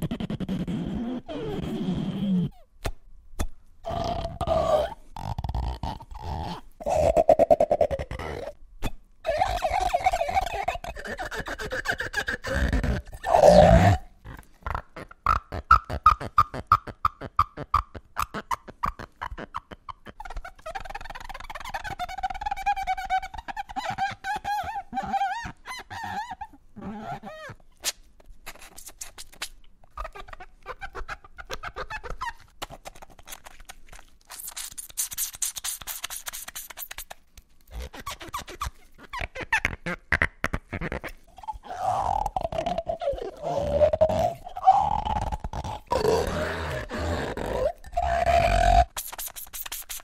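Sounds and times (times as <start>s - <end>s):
rubber squeaking and squealing: 0.0s - 3.0s, 3.8s - 50.0s.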